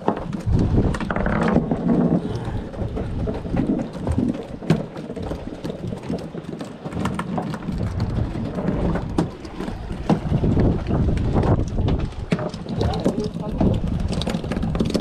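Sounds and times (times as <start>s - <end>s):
low boat engine rumble: 0.0s - 15.0s
wind buffeting microphone: 0.0s - 15.0s.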